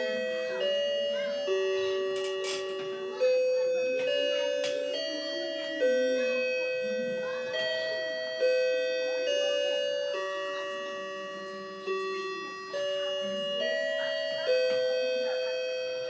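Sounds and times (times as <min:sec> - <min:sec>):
clock chiming a tune: 0:00.0 - 0:16.0.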